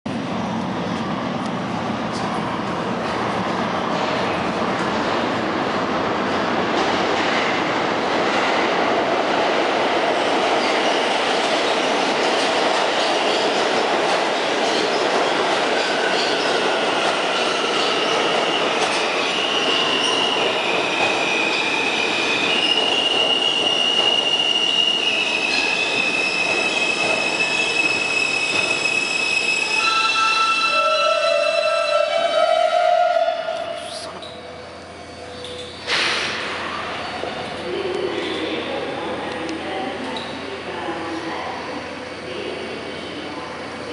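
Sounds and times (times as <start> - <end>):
train wheels rumbling on rail: 0.1 - 43.9.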